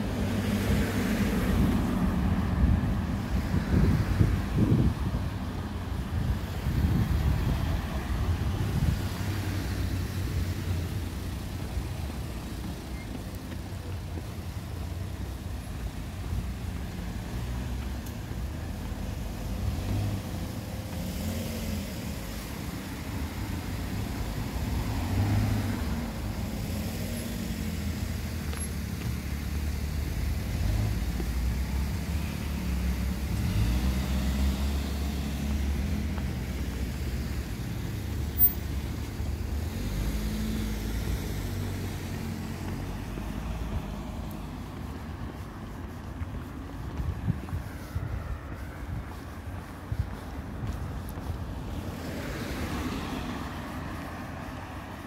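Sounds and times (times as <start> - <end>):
cars passing by: 0.0 - 55.0.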